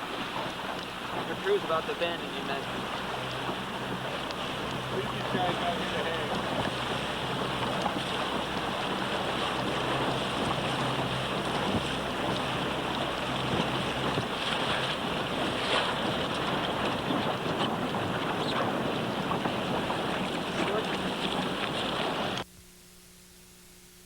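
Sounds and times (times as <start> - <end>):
wind buffeting microphone: 0.0 - 22.4
water splashing around boat: 0.0 - 22.5.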